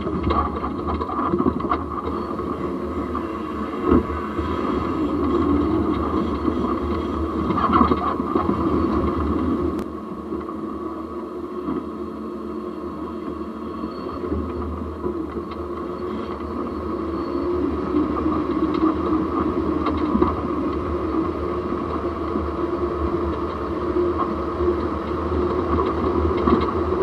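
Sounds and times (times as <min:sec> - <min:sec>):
drivetrain and tyre running noise: 0:00.0 - 0:27.0.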